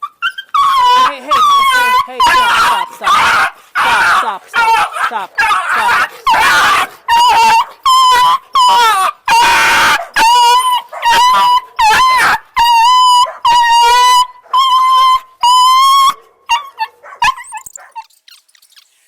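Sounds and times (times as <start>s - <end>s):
puppy screaming: 0.0s - 18.1s.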